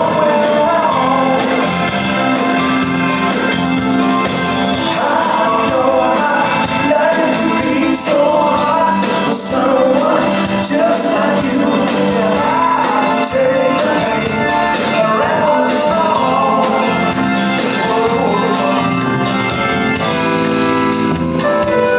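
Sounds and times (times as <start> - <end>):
bending melodic lead: 0.0 - 21.9
blues-rock band playing live: 0.0 - 21.9.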